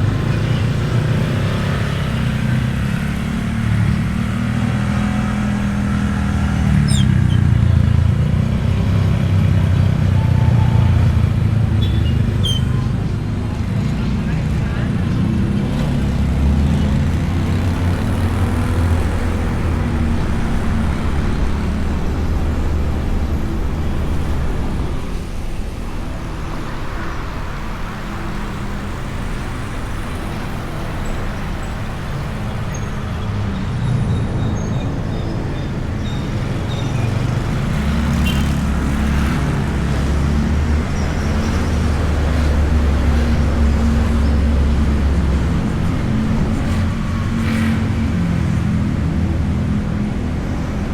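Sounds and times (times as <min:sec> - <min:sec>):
road noise: 0:00.0 - 0:50.9.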